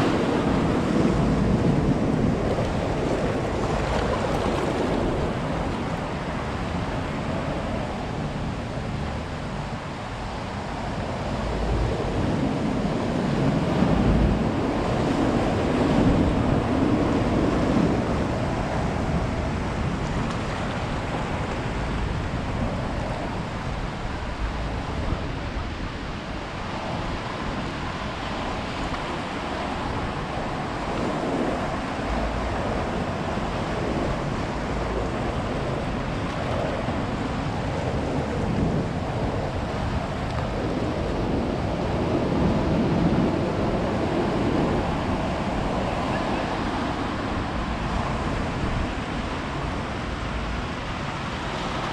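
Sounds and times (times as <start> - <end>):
waves breaking on a beach: 0.0 - 51.9
wind buffeting microphone: 0.0 - 51.9.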